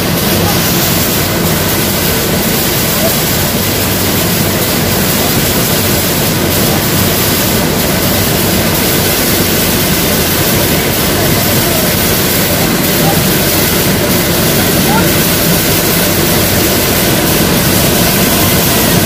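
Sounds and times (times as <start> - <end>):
grinding mill running: 0.0 - 19.0.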